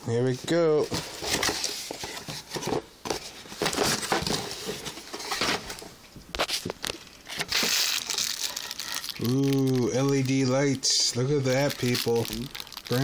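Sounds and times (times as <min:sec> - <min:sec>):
packaging rustling and crinkling: 0:00.8 - 0:13.0.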